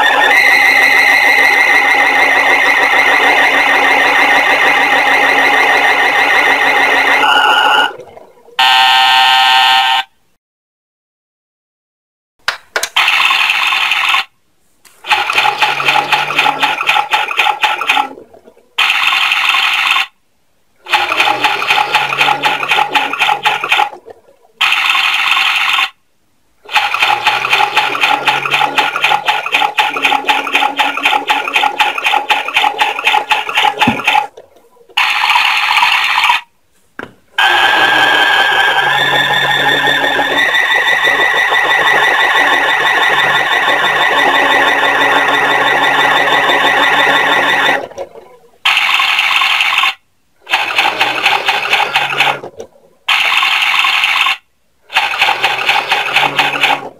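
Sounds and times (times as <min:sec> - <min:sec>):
toy washing machine sound effects: 0:00.0 - 0:10.1, 0:12.9 - 0:14.3, 0:15.0 - 0:20.2, 0:20.8 - 0:26.0, 0:26.6 - 0:36.5, 0:37.4 - 0:56.9.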